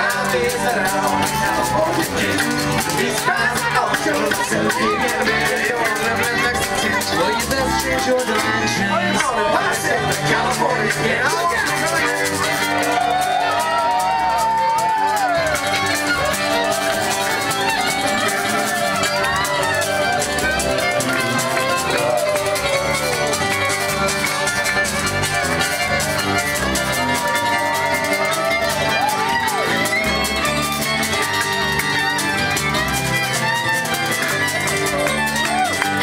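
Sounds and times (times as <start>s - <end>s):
bass line: 0.0s - 36.0s
fiddle melody: 0.0s - 36.0s
strummed acoustic guitar: 0.0s - 36.0s.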